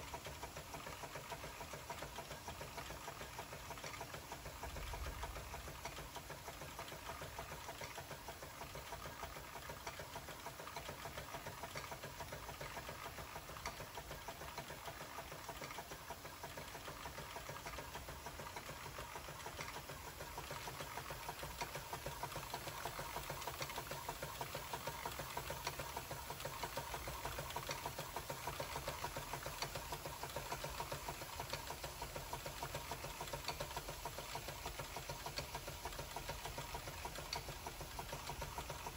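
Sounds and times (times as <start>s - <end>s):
toy steam engine clatter: 0.0s - 38.9s
whirring belts and shafts: 0.0s - 38.9s.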